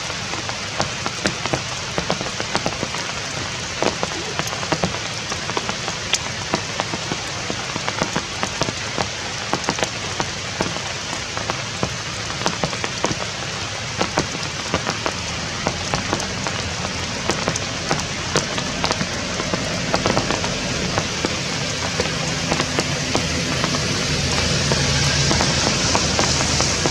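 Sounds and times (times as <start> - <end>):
steady rain falling: 0.0 - 26.9
drops ticking on a surface: 0.1 - 26.9.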